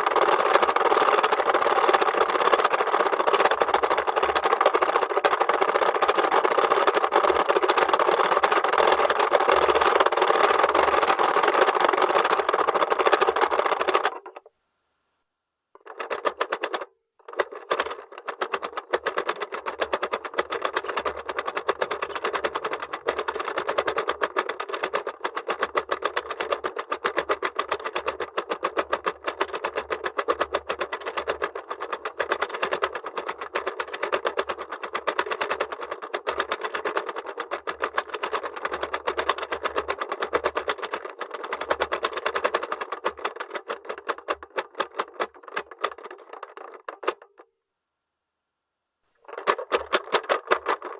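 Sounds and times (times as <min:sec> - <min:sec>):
toy clock mechanism rattling: 0:00.0 - 0:14.4, 0:15.8 - 0:47.5, 0:49.2 - 0:50.9.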